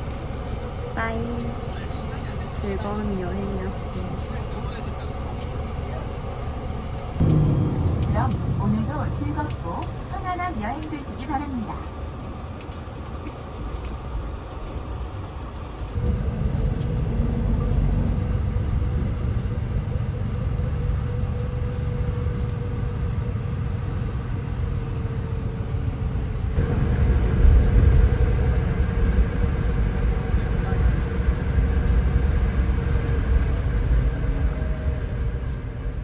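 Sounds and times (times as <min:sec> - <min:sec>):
vehicle interior rumble: 0:00.0 - 0:36.0.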